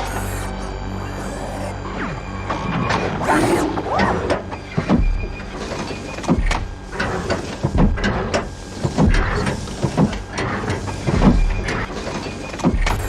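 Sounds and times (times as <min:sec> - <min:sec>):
robot servo motors whirring: 0:00.0 - 0:05.0, 0:06.2 - 0:13.0.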